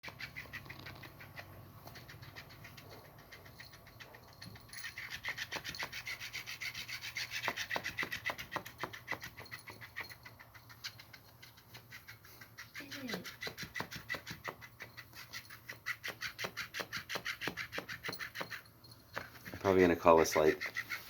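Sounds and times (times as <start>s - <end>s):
fish cat toy tail rubbing and tapping: 0.0s - 21.0s.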